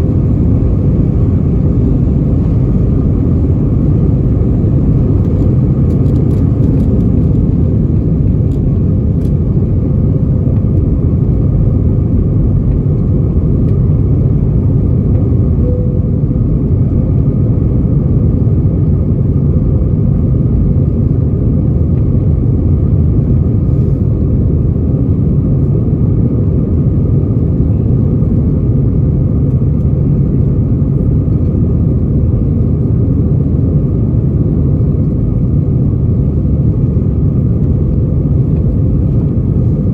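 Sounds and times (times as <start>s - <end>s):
faint steady hum: 0.0s - 39.9s
jet engine cabin rumble: 0.0s - 39.9s.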